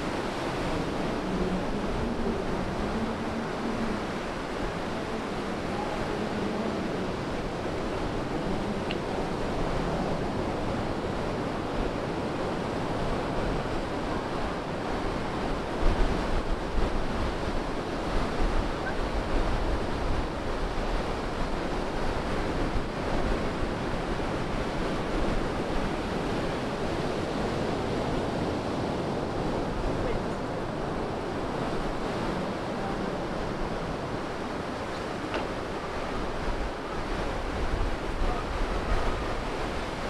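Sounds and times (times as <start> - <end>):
ocean surf breaking on beach: 0.0 - 40.0
wind buffeting microphone: 0.0 - 40.0.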